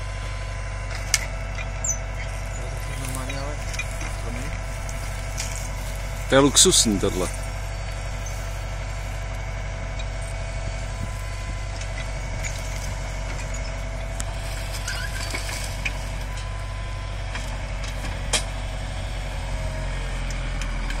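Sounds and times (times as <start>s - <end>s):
hydraulic crane whine: 0.0s - 21.0s
tractor diesel engine running: 0.0s - 21.0s.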